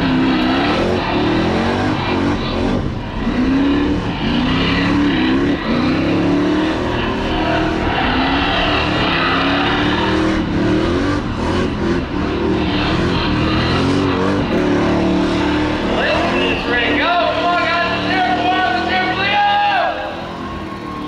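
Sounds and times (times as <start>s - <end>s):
pickup truck engine revving: 0.0s - 21.0s.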